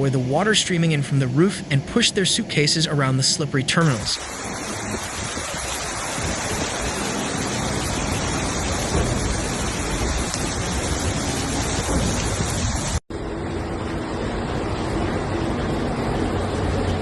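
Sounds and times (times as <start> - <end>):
loud rush of water: 0.0 - 17.0.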